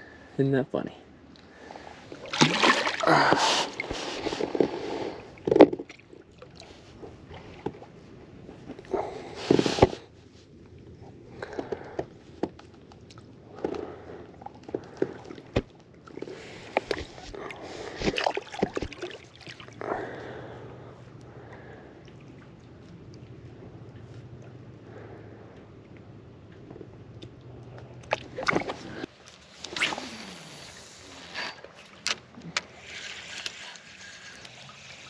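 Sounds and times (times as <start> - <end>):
water sloshing and splashing: 1.2 - 10.1, 11.1 - 35.0.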